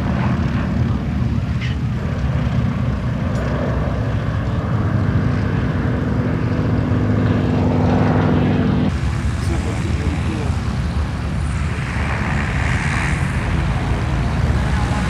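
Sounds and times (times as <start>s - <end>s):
propeller airplane engine: 0.0s - 15.0s
steady engine drone: 0.0s - 15.0s.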